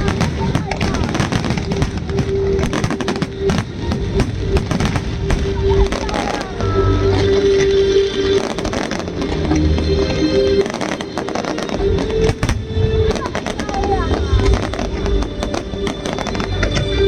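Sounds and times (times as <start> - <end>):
fireworks bursting and crackling: 0.0 - 17.0
low booms: 0.0 - 17.0
music: 0.0 - 17.0
voices: 0.0 - 17.0.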